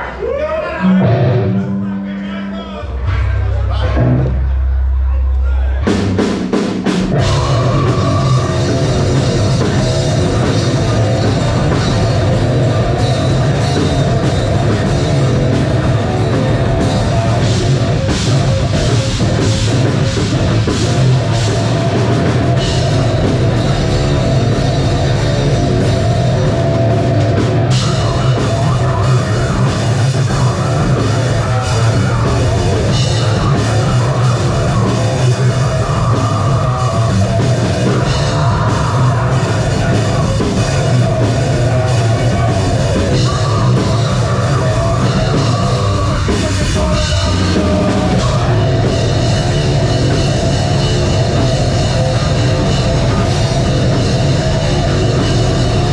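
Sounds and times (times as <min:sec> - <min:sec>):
metal band playing loud: 0:00.0 - 0:55.9.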